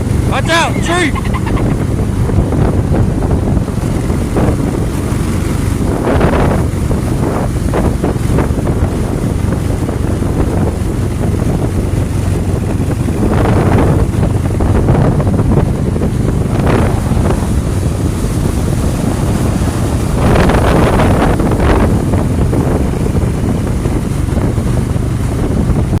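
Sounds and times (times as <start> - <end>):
boat motor running: 0.0 - 26.0
wind buffeting microphone: 0.0 - 26.0.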